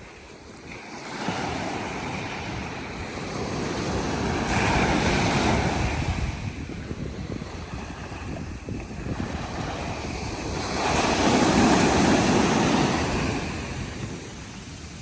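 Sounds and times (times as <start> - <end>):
surf wave rushing in: 1.0 - 15.0.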